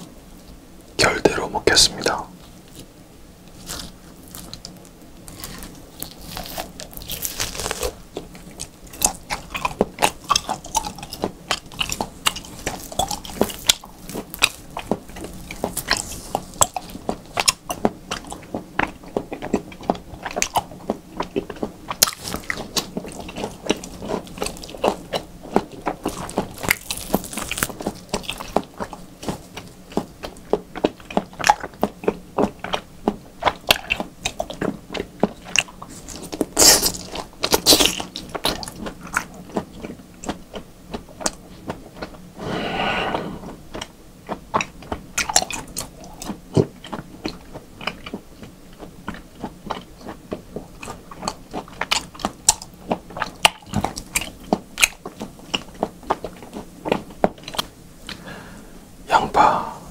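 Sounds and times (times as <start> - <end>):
person chewing: 3.5 - 40.6, 43.2 - 58.5.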